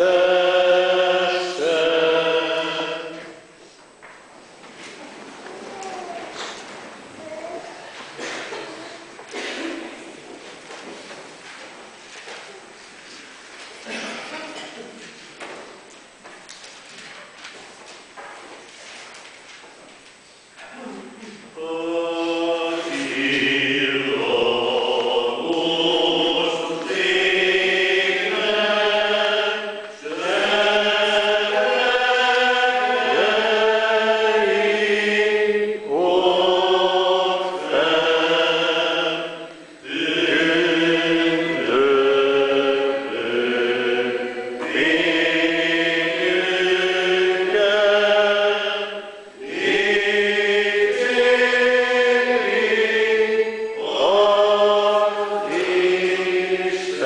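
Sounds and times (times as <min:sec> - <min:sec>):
congregation singing a hymn: 0:00.0 - 0:03.7, 0:05.7 - 0:15.8, 0:20.7 - 0:57.0.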